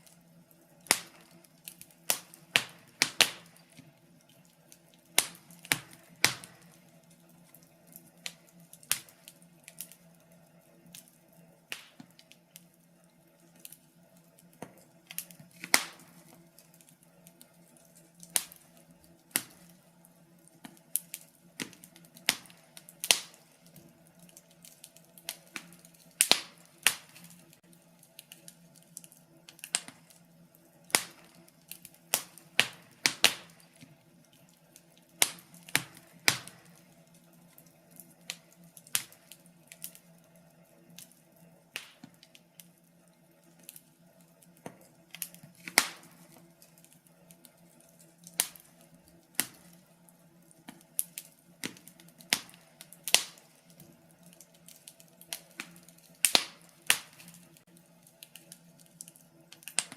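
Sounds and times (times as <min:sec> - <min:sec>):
faint steady hum: 0:00.0 - 0:59.9
wood fire crackling: 0:00.0 - 0:59.9.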